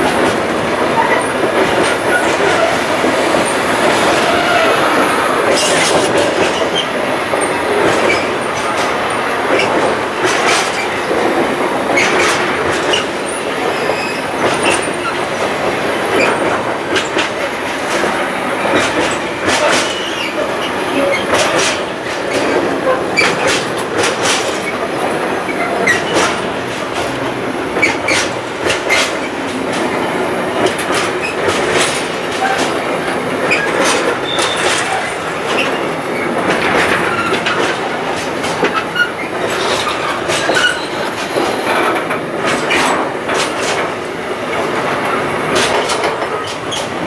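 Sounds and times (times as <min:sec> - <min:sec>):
train wheels rumbling on rail: 0:00.0 - 0:47.0
wagons clattering and clicking: 0:05.4 - 0:47.0.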